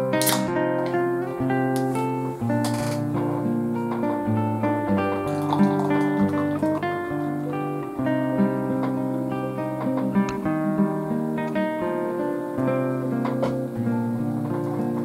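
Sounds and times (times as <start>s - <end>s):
acoustic guitar tune: 0.0s - 15.0s.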